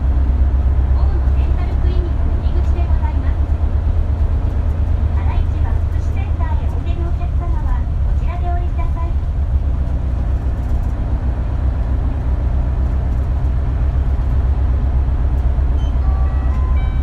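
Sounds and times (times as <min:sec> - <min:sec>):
bus diesel engine droning: 0:00.0 - 0:17.0
road noise: 0:00.0 - 0:17.0.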